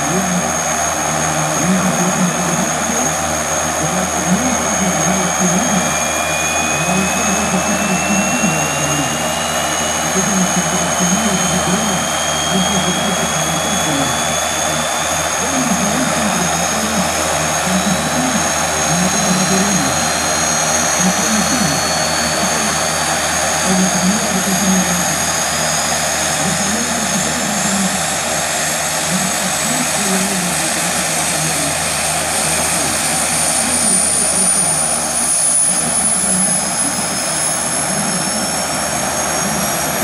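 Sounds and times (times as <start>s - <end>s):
high turbine whine: 0.0s - 40.0s
low wavering hum: 0.0s - 40.0s
turboprop engines roaring: 0.0s - 40.0s.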